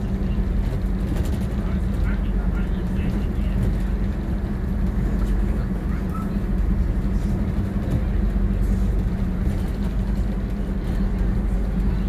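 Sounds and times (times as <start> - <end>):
train diesel engine drone: 0.0 - 12.0.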